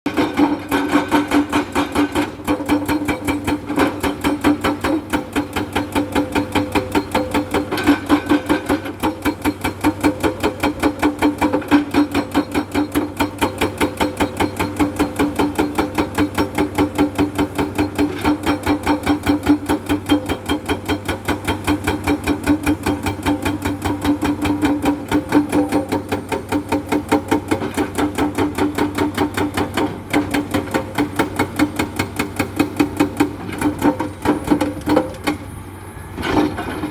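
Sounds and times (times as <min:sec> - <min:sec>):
hydraulic rock breaker hammering: 0:00.1 - 0:35.5.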